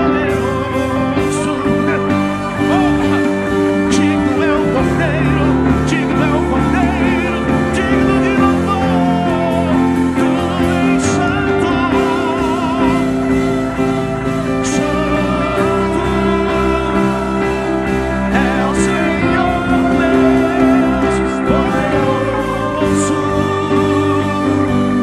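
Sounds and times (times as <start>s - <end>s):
person singing with vibrato: 0.0s - 25.0s
sustained instrumental chords: 0.0s - 25.0s.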